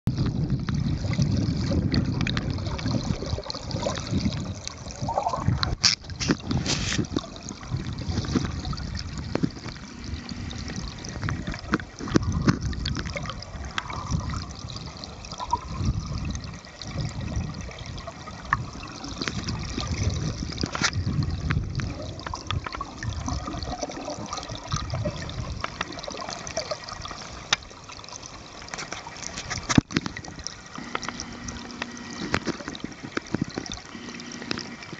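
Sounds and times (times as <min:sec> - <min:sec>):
stream water heard underwater: 0:00.1 - 0:34.9.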